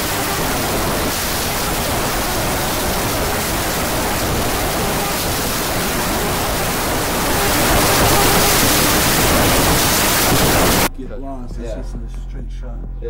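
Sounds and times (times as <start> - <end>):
loud rushing hiss: 0.0 - 10.9.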